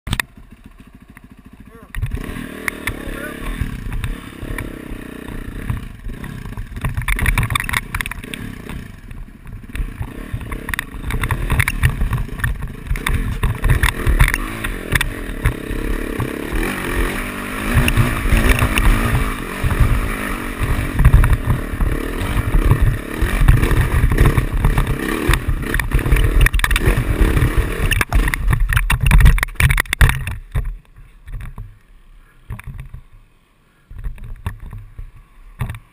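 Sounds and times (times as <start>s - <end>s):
dirt bike engine revving: 0.2s - 30.7s.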